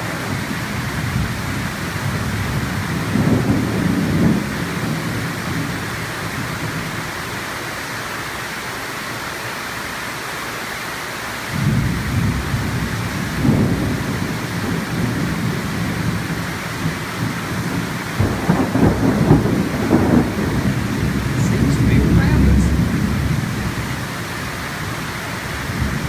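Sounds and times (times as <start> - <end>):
thunder rolling and cracking: 0.0 - 7.0, 11.6 - 26.0
heavy rain: 0.0 - 26.0.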